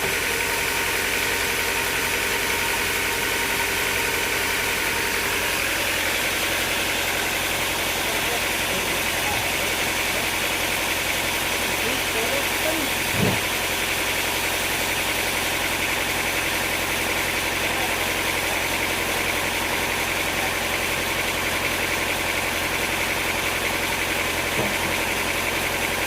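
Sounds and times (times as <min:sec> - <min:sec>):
sawmill machinery drone: 0:00.0 - 0:26.0.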